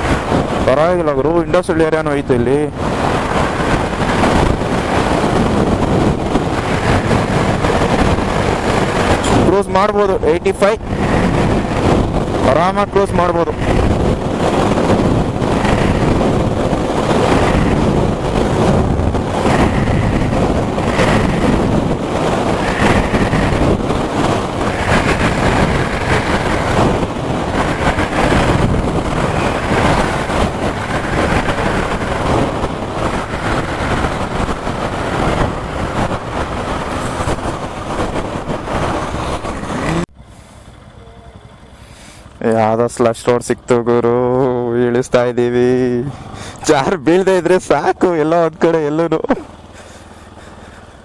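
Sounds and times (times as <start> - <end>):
wind rush on microphone: 0.0 - 40.1, 43.5 - 51.0
motorcycle engine cruising: 0.0 - 51.0.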